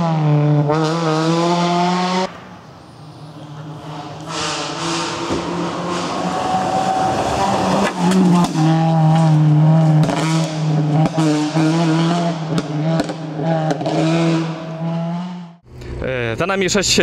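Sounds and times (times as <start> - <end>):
rally car engine at high revs: 0.0 - 2.4, 3.4 - 15.6.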